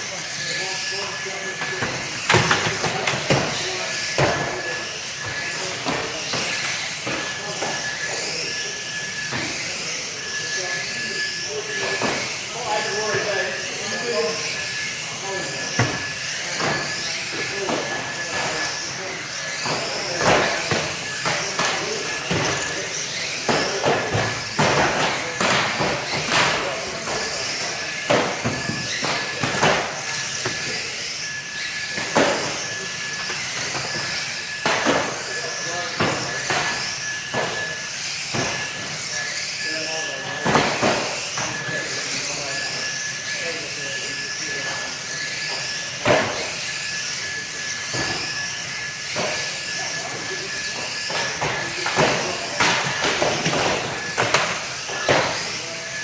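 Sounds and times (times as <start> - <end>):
electric toy car motors whining: 0.0 - 56.0.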